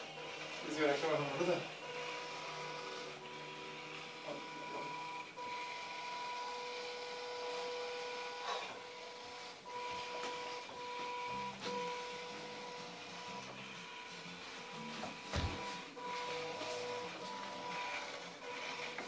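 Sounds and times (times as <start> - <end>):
robot mower motors whining: 0.0 - 19.0.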